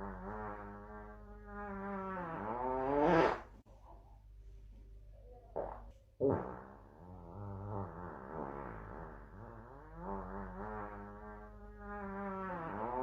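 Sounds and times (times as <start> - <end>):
fart sound effect: 0.0 - 3.5, 5.5 - 13.0.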